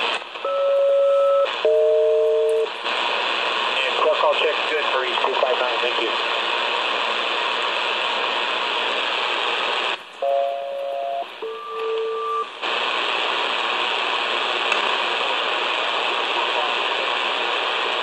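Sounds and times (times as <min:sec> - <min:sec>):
shortwave receiver hiss: 0:00.0 - 0:18.0.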